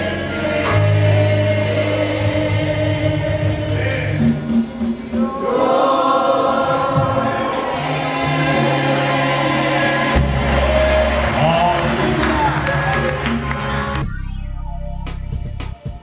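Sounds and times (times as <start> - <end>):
gospel choir singing: 0.0 - 14.0
keyboard accompaniment: 0.0 - 16.0.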